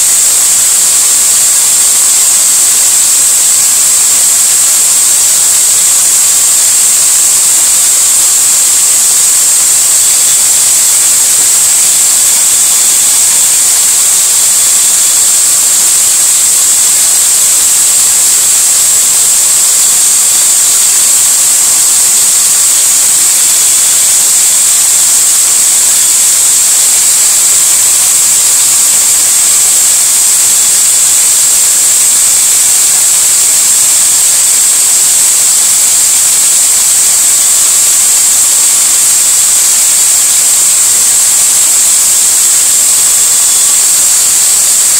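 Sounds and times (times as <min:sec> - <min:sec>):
sandpaper hissing on spinning valve: 0:00.0 - 0:44.9.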